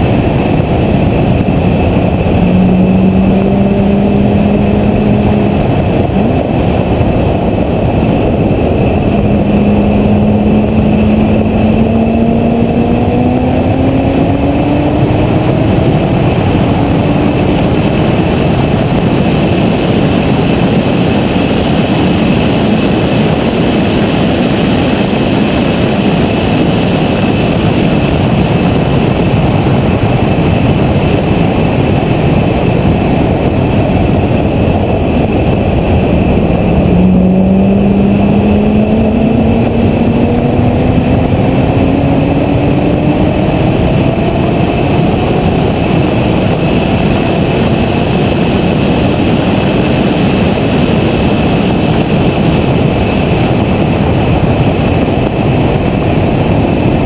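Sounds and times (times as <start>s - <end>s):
car engine accelerating hard: 0.0s - 57.0s
wind roar on microphone: 0.0s - 57.0s.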